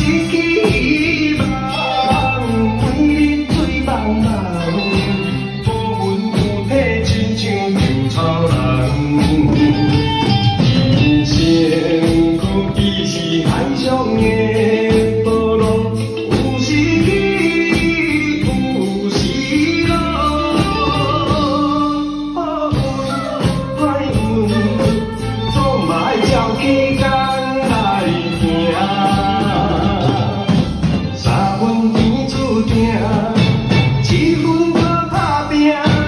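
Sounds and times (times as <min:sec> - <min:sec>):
backing track with singing and guitar: 0:00.0 - 0:36.0
children playing drum kits: 0:00.0 - 0:36.0.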